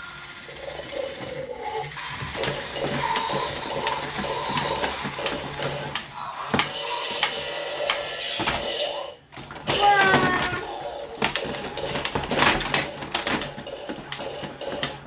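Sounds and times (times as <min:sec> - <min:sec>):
toy motor and gears whirring: 0:00.0 - 0:15.0.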